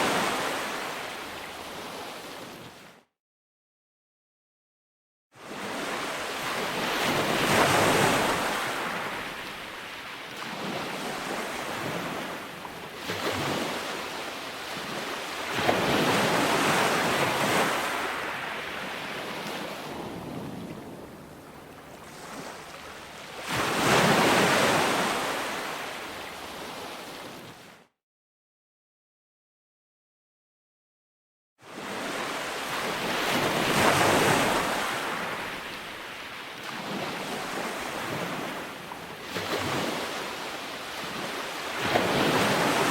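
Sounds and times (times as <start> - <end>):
ocean surf washing onto beach: 0.0 - 2.6, 5.5 - 27.4, 31.8 - 42.9.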